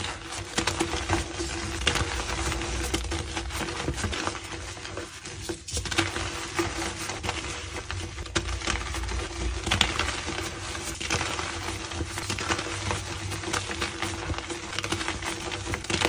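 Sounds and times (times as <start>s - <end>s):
chalk crunching and crumbling: 0.0s - 16.0s.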